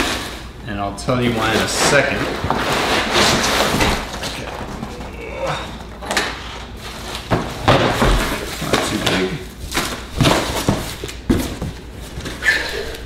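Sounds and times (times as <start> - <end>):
cardboard rustling and crinkling: 1.1 - 13.0.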